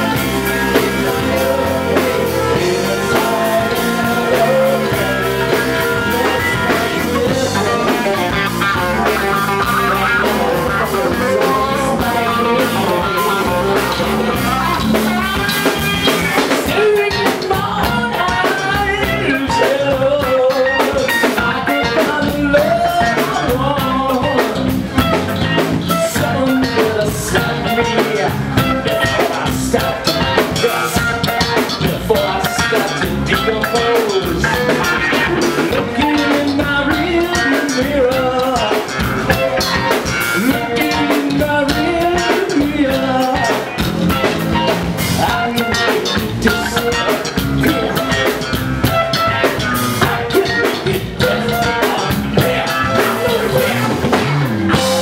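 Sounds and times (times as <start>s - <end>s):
drum kit: 0.0s - 55.0s
electric bass: 0.0s - 55.0s
electric guitar: 0.0s - 55.0s
man singing: 0.0s - 55.0s.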